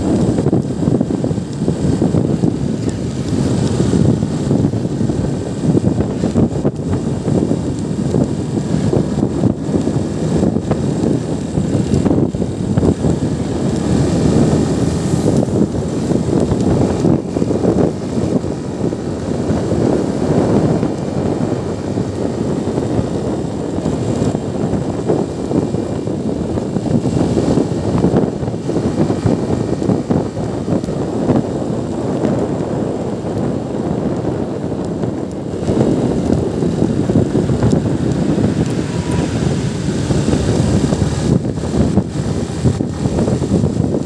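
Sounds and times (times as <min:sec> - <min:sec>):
motorcycle engine: 0:00.0 - 0:44.0
road noise: 0:00.0 - 0:44.0
wind rushing over microphone: 0:00.0 - 0:44.0.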